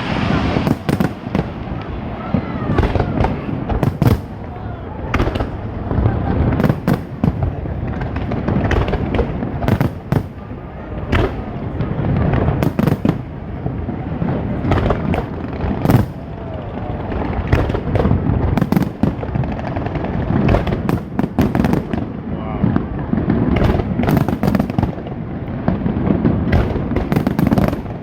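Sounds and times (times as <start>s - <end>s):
firework bangs: 0.0s - 28.0s.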